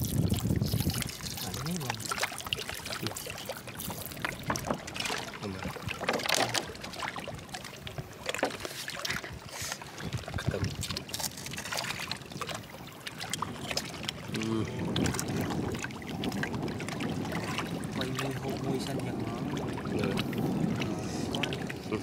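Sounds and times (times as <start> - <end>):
water trickling and sloshing: 0.0 - 22.0.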